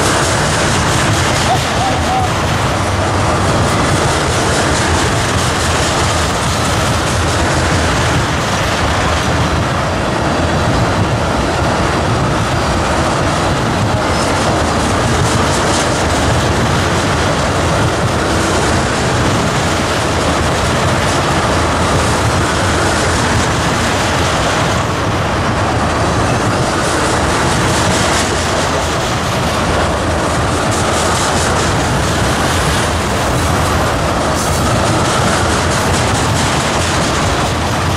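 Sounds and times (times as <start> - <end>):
steel wheels rumbling on rail: 0.0 - 37.9.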